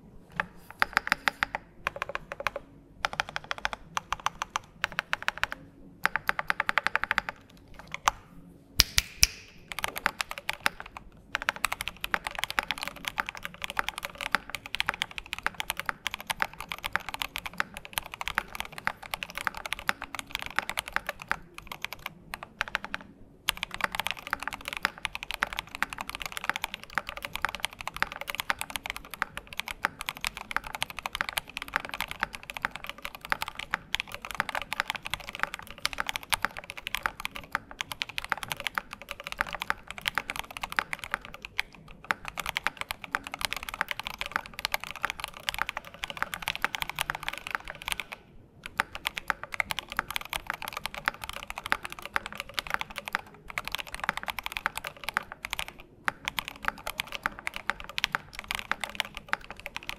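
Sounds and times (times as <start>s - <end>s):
mechanical keyboard typing: 0.0s - 8.2s, 8.8s - 59.9s.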